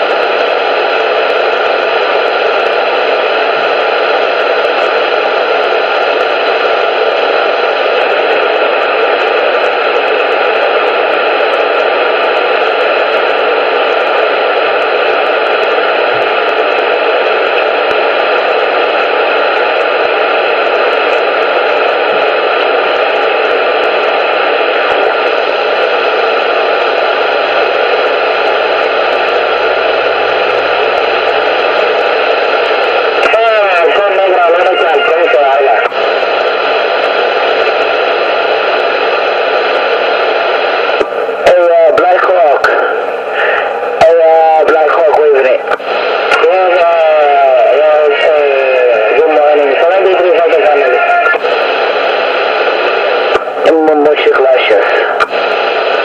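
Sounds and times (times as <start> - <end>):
radio static hiss: 0.0 - 56.0.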